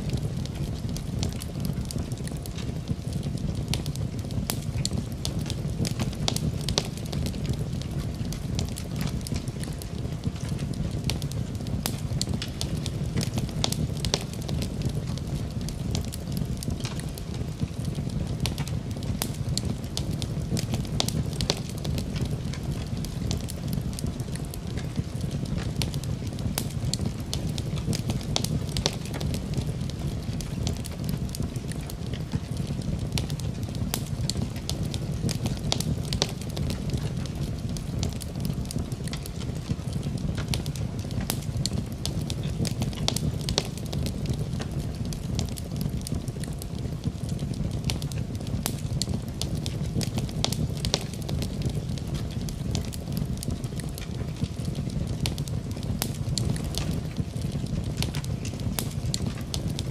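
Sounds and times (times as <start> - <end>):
fire crackling and popping: 0.0 - 59.9
low fire rumble: 0.0 - 59.9.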